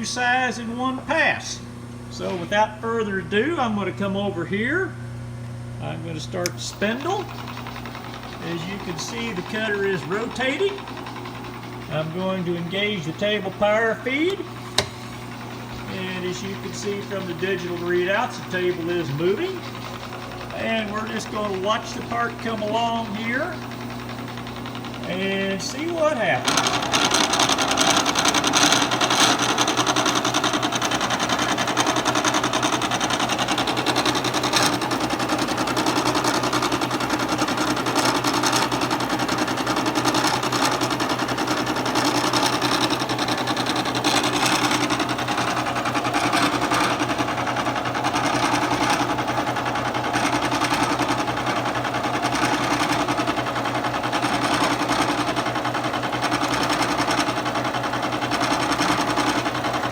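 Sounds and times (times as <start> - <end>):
spindle hum: 0.0 - 59.9
milling cutter cutting metal: 6.4 - 59.9.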